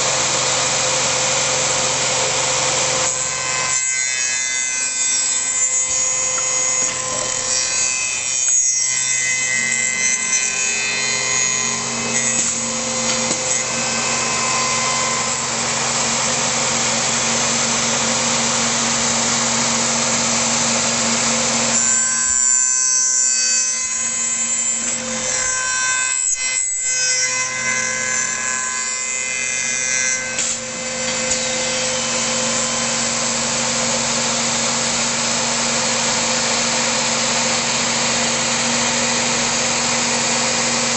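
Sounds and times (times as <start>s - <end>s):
cutters machining wood: 0.0s - 40.9s.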